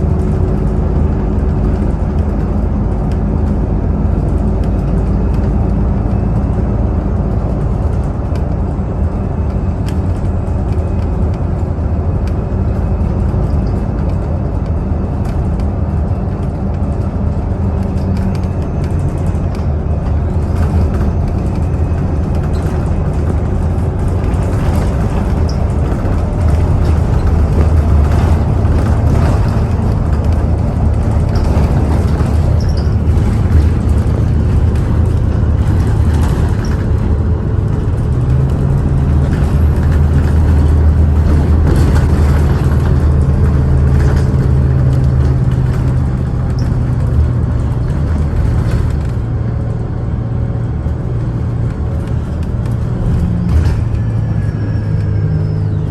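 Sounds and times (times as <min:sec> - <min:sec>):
bus engine running: 0:00.0 - 0:55.9
road noise: 0:00.0 - 0:55.9.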